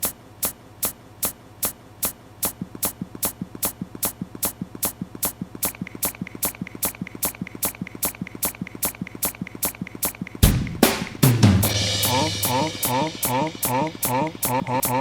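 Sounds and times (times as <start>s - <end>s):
electronic beat of sharp clicks: 0.0s - 15.0s.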